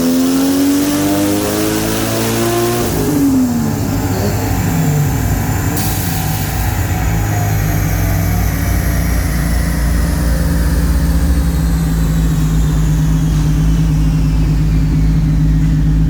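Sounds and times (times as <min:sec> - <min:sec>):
turbo whine falling in pitch: 0:01.2 - 0:16.0
engine idling: 0:02.8 - 0:16.0.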